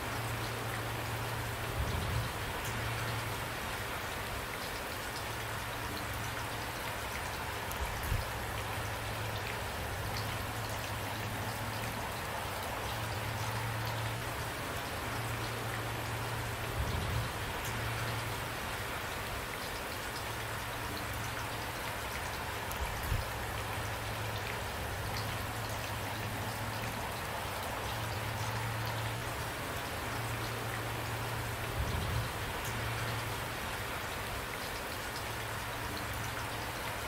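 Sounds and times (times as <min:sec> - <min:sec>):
steady rainfall: 0:00.0 - 0:37.0.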